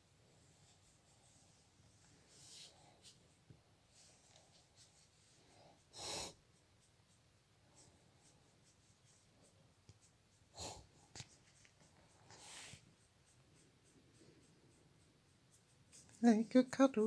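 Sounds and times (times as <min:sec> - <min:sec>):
hand rubbing dog fur: 0:00.3 - 0:17.0.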